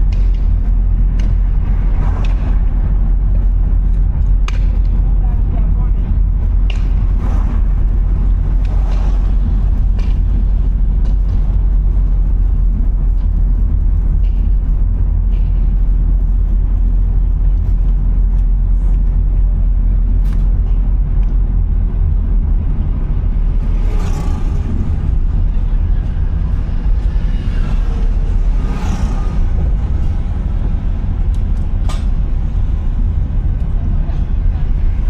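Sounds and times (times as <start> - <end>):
car engine and tyres rumbling: 0.0 - 35.0
faint clicks and swishes: 0.0 - 35.0.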